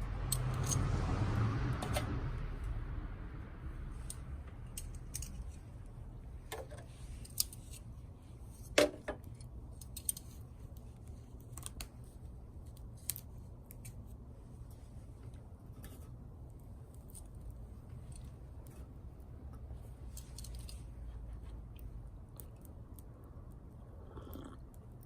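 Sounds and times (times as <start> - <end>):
low steady rumble: 0.0 - 8.7, 9.3 - 25.0
twig fire crackling: 3.8 - 24.0.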